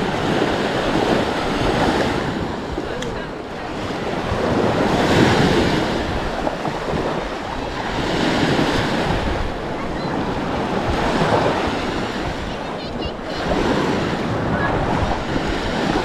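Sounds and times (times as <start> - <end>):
small waves breaking on beach: 0.0 - 16.0
wind buffeting microphone: 0.0 - 16.0.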